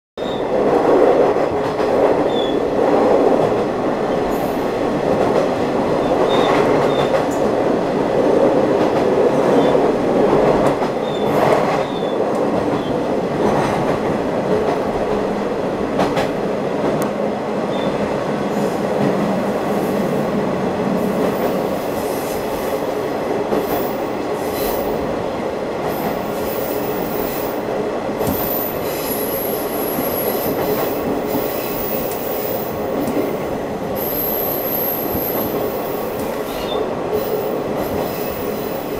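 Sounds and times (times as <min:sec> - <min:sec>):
train wheels rumbling on rails: 0:00.2 - 0:38.9.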